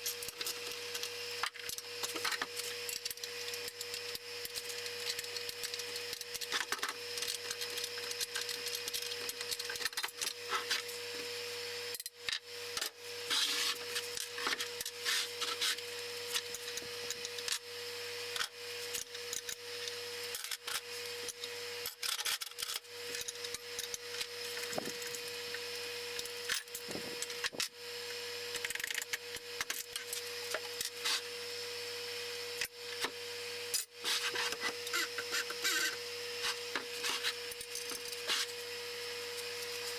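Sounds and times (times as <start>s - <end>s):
hand tools clicking and scraping: 0.0s - 10.9s, 12.8s - 17.6s, 18.3s - 27.8s, 28.5s - 31.3s, 32.6s - 38.7s.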